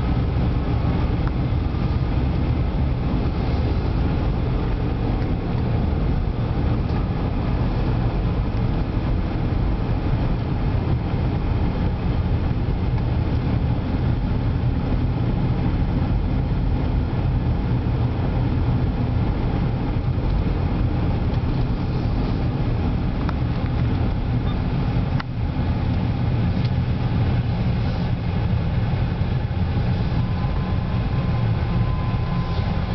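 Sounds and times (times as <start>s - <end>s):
road noise: 0.0s - 32.9s
vehicle engine rumble: 0.0s - 32.9s.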